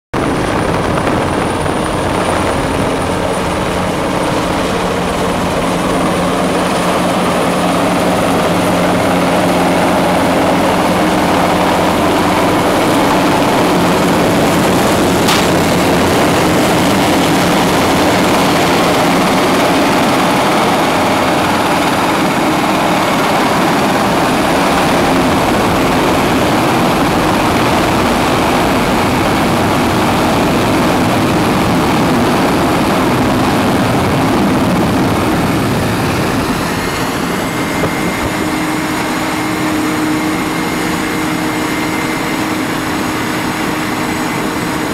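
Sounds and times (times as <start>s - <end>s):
helicopter rotor and turbines: 0.1s - 44.9s.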